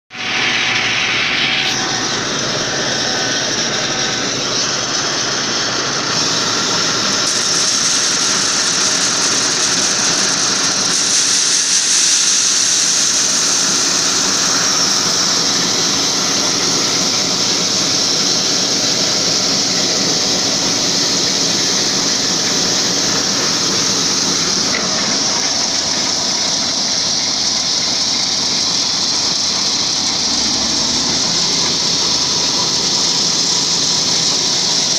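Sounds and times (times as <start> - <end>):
combine harvester running: 0.1 - 34.9
corn kernels streaming: 0.2 - 34.9.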